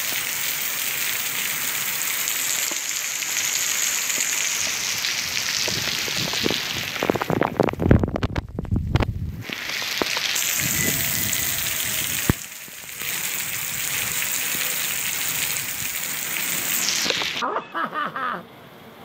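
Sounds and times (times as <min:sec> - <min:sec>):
heavy rain on cobblestones: 0:00.0 - 0:17.4.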